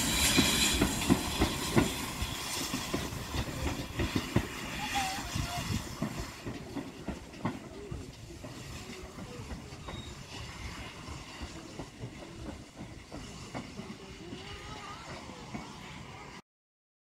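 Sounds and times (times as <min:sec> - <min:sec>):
steam locomotive rail rumble: 0:00.0 - 0:16.4.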